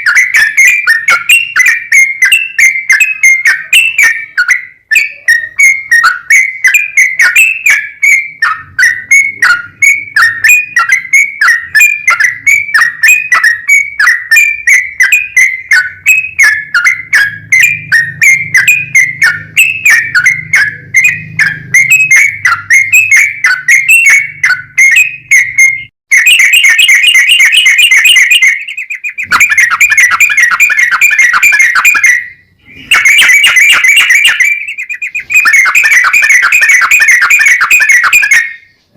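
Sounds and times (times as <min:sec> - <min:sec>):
bird chattering trills: 0:00.0 - 0:38.9
bird song of whistled notes: 0:00.0 - 0:38.9.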